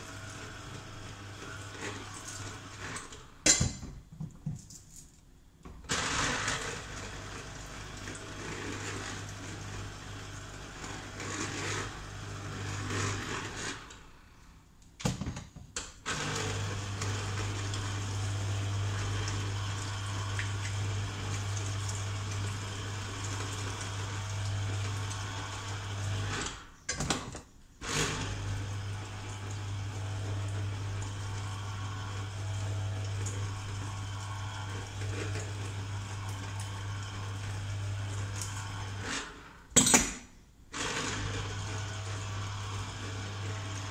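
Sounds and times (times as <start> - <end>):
electric juicer motor grinding: 0.0 - 3.4, 5.9 - 14.2, 16.1 - 26.7, 27.8 - 39.6, 40.8 - 43.9.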